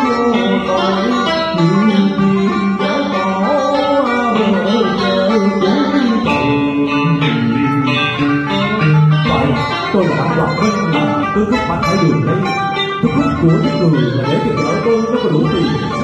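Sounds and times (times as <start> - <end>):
electric guitar bending notes: 0.0 - 16.0
plucked lute: 0.0 - 16.0.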